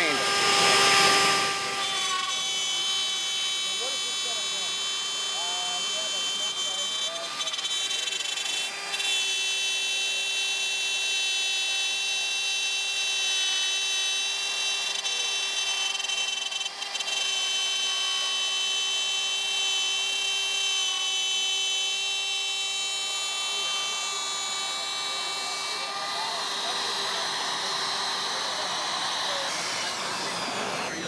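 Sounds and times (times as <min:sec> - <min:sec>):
router spindle whine cutting wood: 0:00.0 - 0:31.0.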